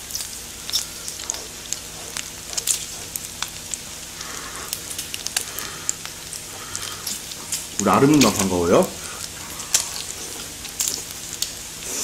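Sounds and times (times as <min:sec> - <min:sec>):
fat popping and crackling: 0:00.0 - 0:11.9
meat sizzling on a grill pan: 0:00.0 - 0:12.0.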